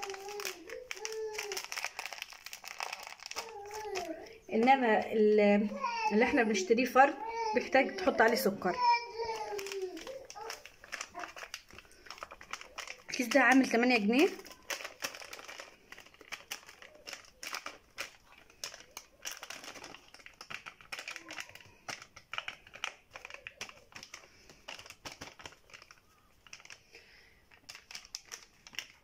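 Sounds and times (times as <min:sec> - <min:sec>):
foil sachet crinkling: 0:00.0 - 0:05.1, 0:05.8 - 0:29.0.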